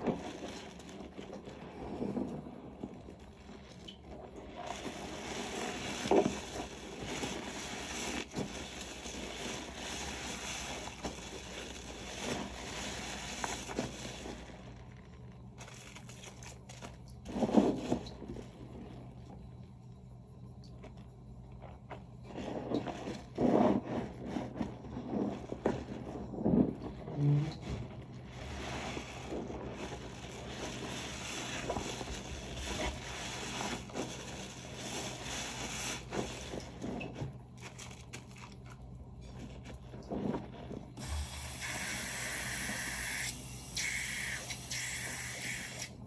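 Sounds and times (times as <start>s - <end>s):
soapy sponge squishing: 0.0s - 19.6s, 20.7s - 46.0s.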